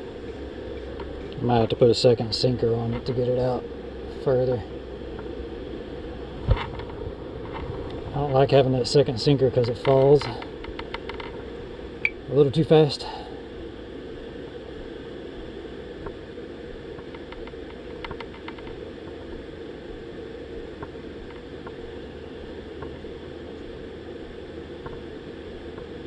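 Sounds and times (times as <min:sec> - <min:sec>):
low rushing background noise: 0:00.0 - 0:26.0.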